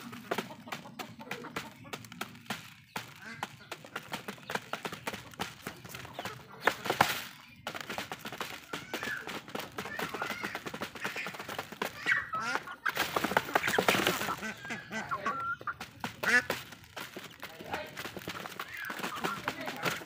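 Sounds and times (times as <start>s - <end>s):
beaks tapping on cardboard: 0.0s - 20.0s
chickens clucking: 0.0s - 20.0s.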